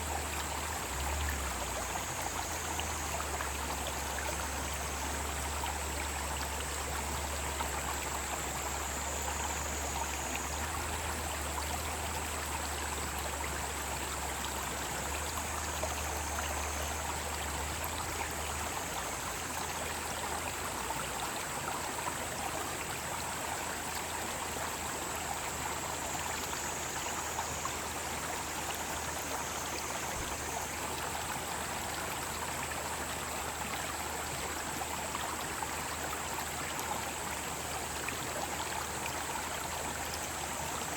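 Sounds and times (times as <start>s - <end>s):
cicadas droning: 0.0s - 40.9s
stream flowing: 0.0s - 40.9s.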